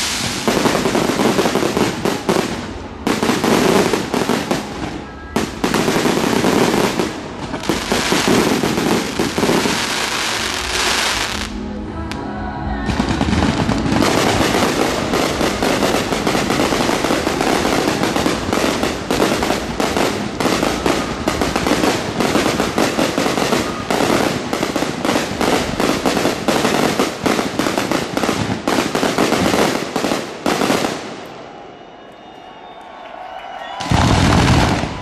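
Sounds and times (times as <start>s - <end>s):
fireworks bangs and crackling: 0.0s - 12.2s, 12.8s - 31.6s, 33.7s - 35.0s.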